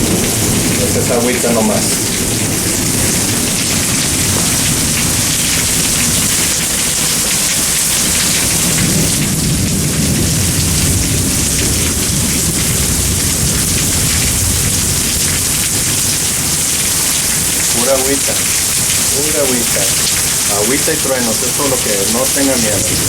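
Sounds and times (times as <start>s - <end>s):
heavy rain pouring: 0.0s - 23.0s
thunder rumbling: 0.0s - 23.0s.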